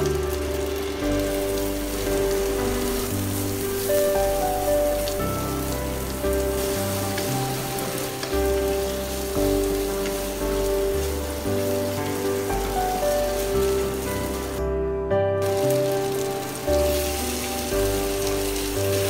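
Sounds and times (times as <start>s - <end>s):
food sizzling in hot oil: 0.0s - 14.6s, 15.4s - 19.0s.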